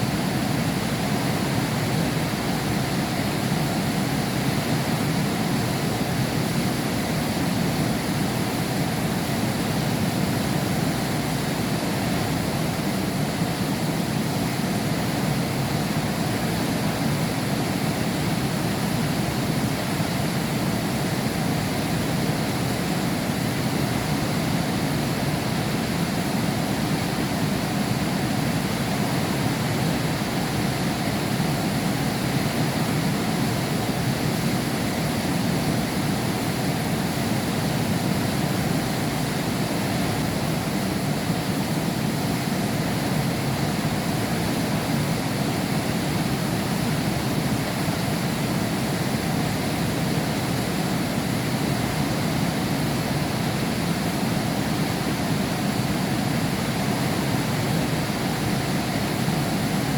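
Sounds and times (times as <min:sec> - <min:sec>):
heavy rain behind a window: 0:00.0 - 0:59.9.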